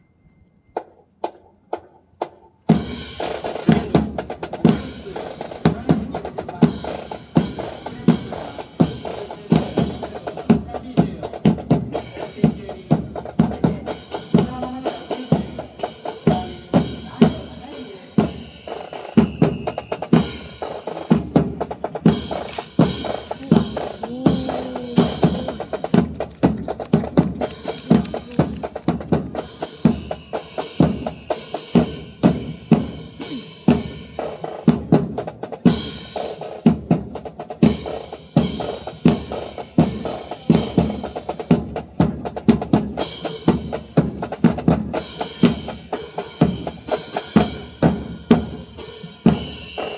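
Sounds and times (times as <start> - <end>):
marching snare drums: 0.8 - 49.9.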